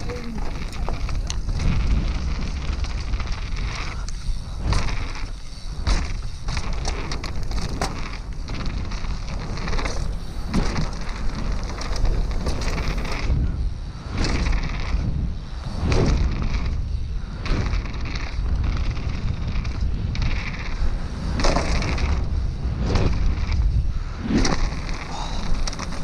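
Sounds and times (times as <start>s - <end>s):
bike rattling and knocking: 0.0s - 26.0s
tyres rumbling on dirt and stones: 0.0s - 26.0s
wind rushing over microphone: 0.0s - 26.0s.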